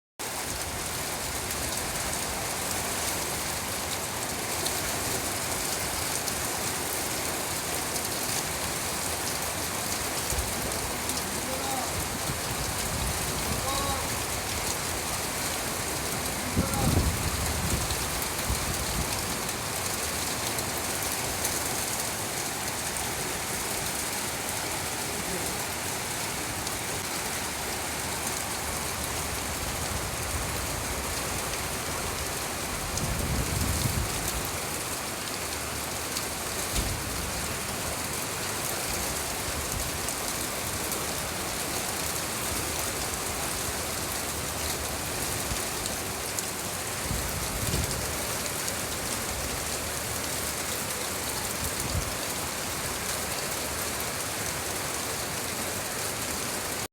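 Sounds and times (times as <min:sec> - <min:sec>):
steady rain falling: 0:00.2 - 0:56.9.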